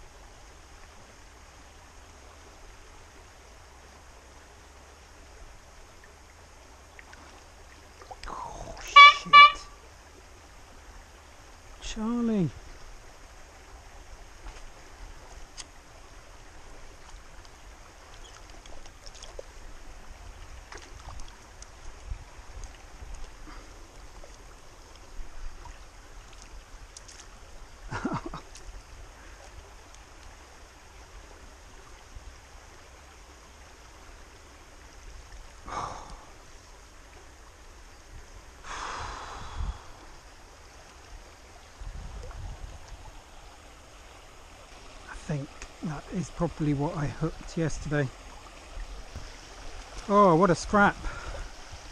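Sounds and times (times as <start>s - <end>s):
stream rushing: 0.0s - 51.9s.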